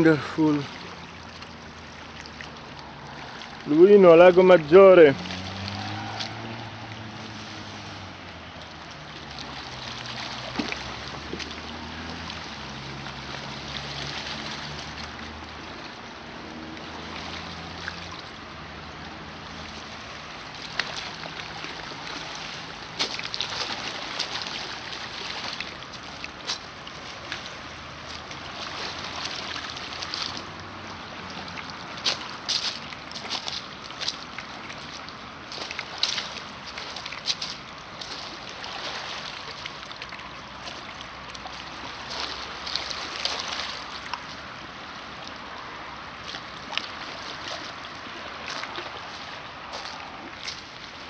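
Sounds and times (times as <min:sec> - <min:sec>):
small waves lapping on rocks: 0:00.0 - 0:51.0.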